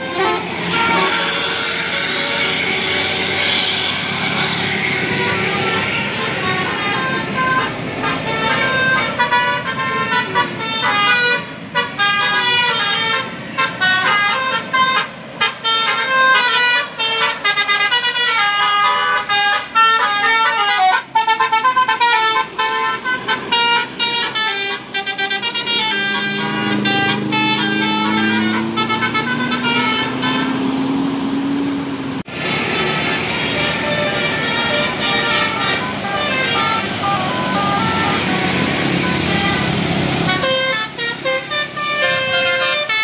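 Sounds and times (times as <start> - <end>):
bus horn playing a tune: 0.0 - 31.6, 32.2 - 43.0.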